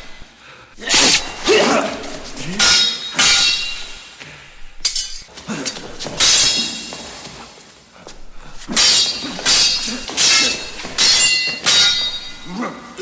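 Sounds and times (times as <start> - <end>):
steel swords clashing: 0.8 - 7.4, 8.0 - 13.0.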